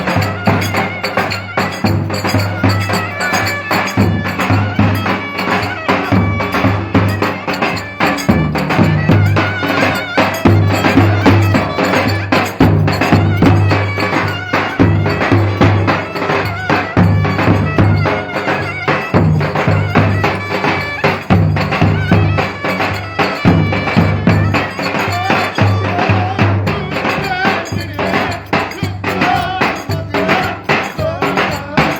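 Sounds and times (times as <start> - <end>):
folk dance melody: 0.0 - 31.9
light percussion: 0.0 - 31.9
low drum beat: 0.0 - 31.9.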